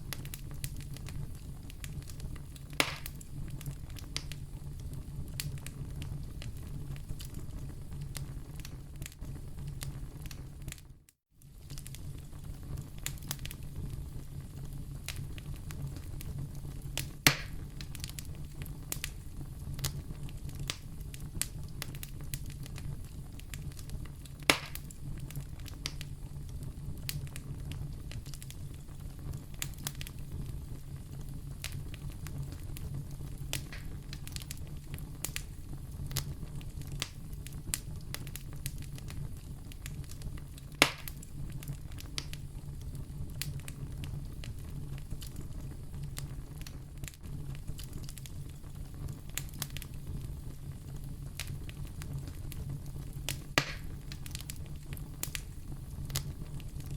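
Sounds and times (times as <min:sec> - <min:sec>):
loud fire pops: 0:00.0 - 0:10.9, 0:11.5 - 0:56.9
wood fire crackling: 0:00.0 - 0:56.9.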